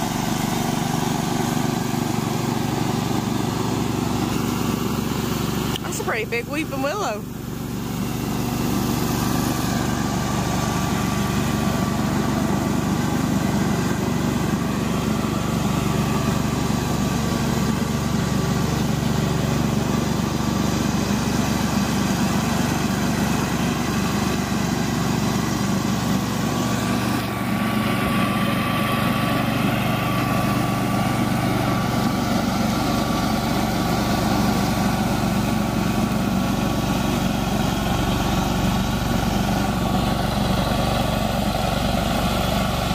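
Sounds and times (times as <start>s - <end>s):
lawn mower engine cutting grass: 0.0s - 42.9s.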